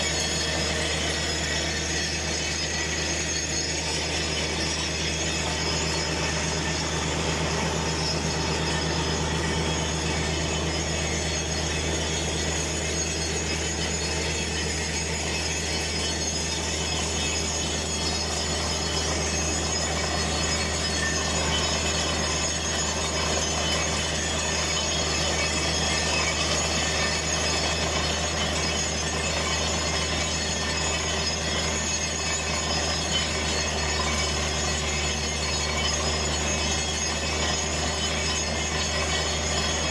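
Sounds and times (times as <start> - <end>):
drilling rig humming: 0.0 - 39.9.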